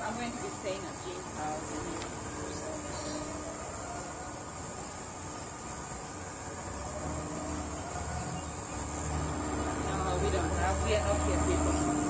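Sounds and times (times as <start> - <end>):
faint traffic rumble: 0.0 - 12.0
insects chorus: 0.0 - 12.0.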